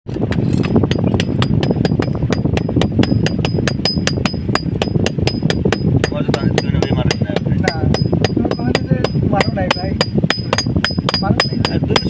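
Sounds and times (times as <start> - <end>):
low rumble: 0.1 - 12.0
hammer striking iron on anvil: 0.3 - 12.0.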